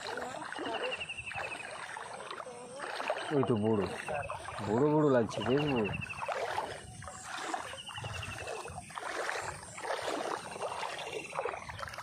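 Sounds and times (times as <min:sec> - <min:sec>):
feet wading through water: 0:00.0 - 0:12.0.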